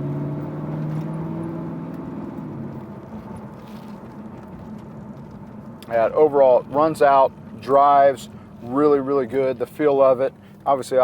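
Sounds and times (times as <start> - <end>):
car engine pulling under throttle: 0.0 - 11.0
car rolling rumble: 0.0 - 11.0.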